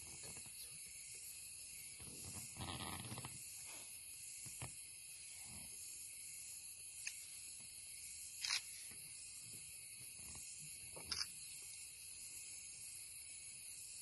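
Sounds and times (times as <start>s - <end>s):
night insect chorus: 0.0s - 14.0s.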